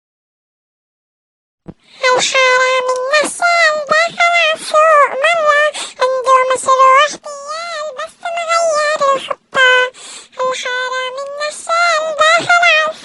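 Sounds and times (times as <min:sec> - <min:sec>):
toy singing in high-pitched voice: 0:02.0 - 0:13.0.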